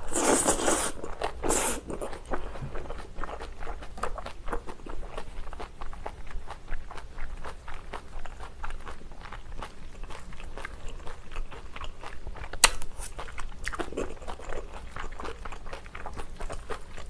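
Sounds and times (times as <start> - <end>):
close-miked chewing: 0.0 - 17.0.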